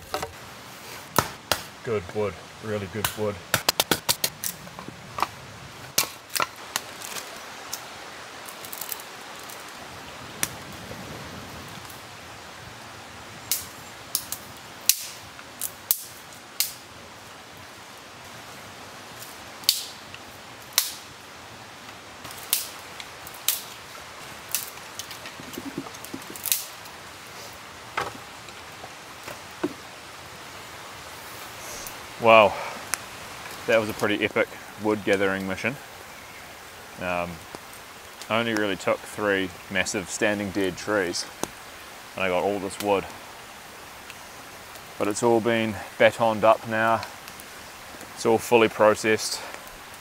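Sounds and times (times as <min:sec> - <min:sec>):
campfire crackling and popping: 0:00.0 - 0:50.0
steady hiss: 0:00.0 - 0:50.0.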